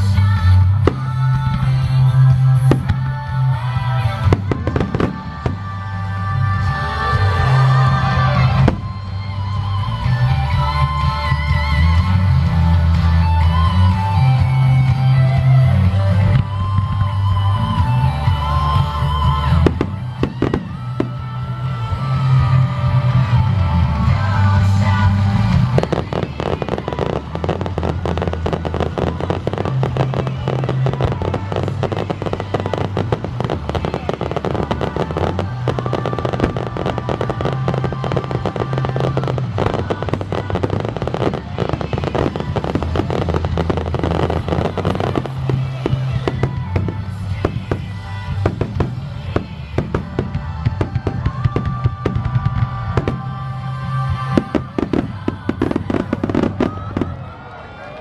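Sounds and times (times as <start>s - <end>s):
fireworks bangs and crackles: 0.0s - 57.7s
music with low sustained notes: 0.0s - 57.7s.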